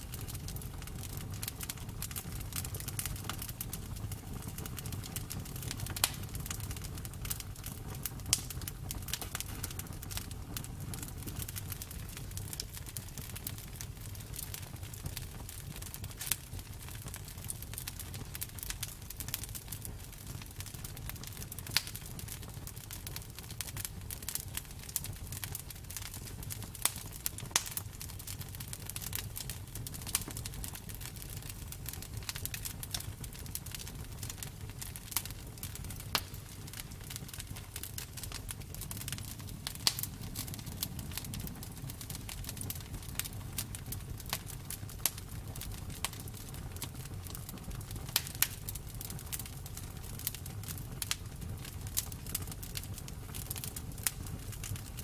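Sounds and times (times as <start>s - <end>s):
bonfire crackling and popping: 0.0s - 55.0s
low rumble of flames: 0.0s - 55.0s.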